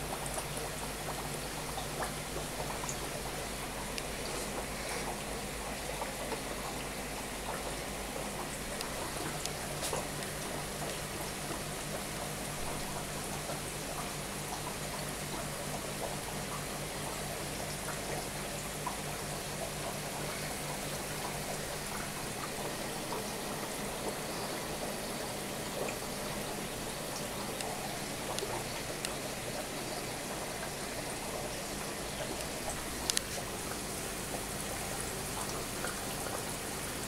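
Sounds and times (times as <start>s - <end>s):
water bubbling from aquarium filters: 0.0s - 37.0s.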